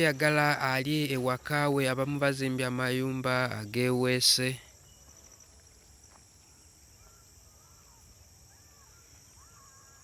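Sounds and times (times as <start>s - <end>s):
high insect drone: 0.0s - 10.0s
small birds chirping: 0.0s - 10.0s.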